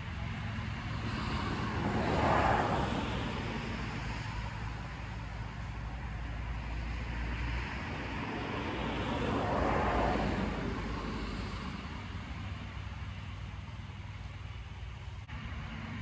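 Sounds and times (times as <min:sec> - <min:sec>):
car driving past: 0:00.0 - 0:13.5.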